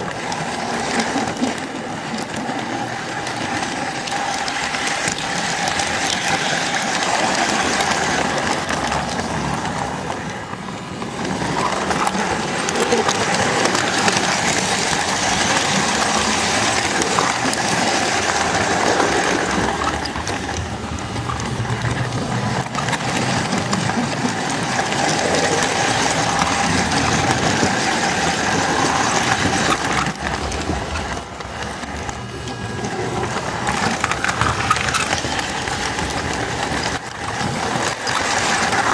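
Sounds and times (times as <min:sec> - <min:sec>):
metal wheels rumbling on track: 0:00.0 - 0:38.9.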